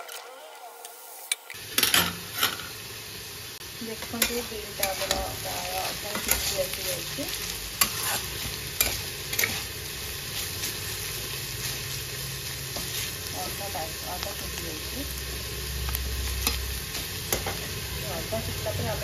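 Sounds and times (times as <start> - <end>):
beans sizzling in oil: 0.0 - 19.0.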